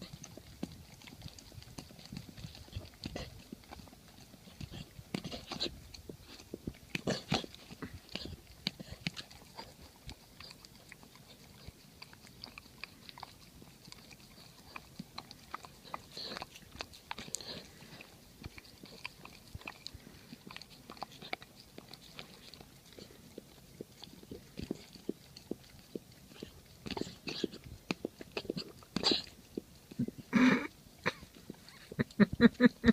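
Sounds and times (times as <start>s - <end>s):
dog chewing with mouth clicks: 0.0s - 32.9s.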